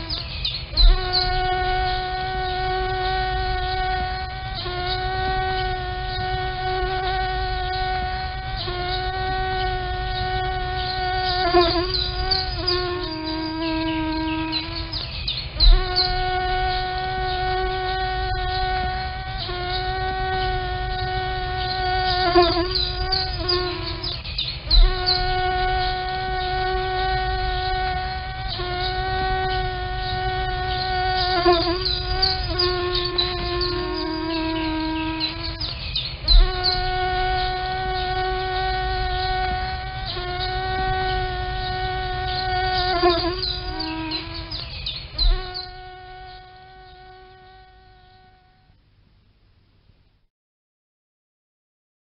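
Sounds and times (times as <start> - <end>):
mosquito whine: 0.0 - 48.8.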